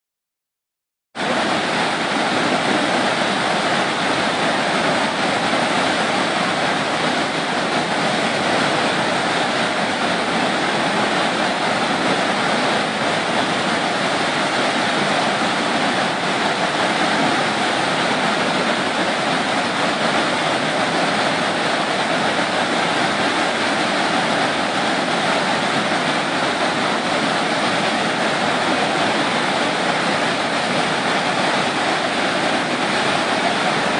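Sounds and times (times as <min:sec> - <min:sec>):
whitewater rushing: 0:01.2 - 0:33.9.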